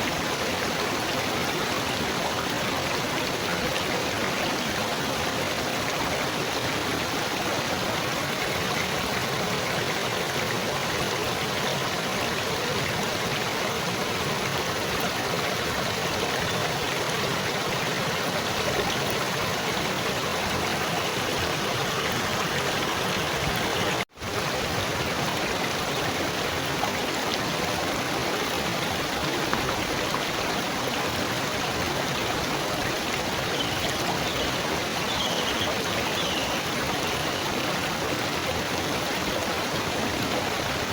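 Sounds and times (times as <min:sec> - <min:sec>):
babbling stream water: 0:00.0 - 0:40.9.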